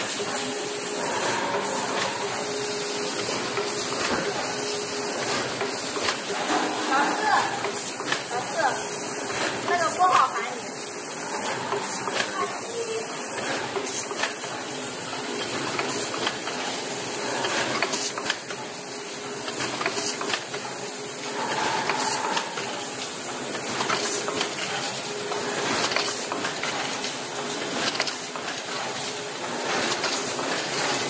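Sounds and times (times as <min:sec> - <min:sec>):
packaging machine hissing: 0:00.0 - 0:31.0.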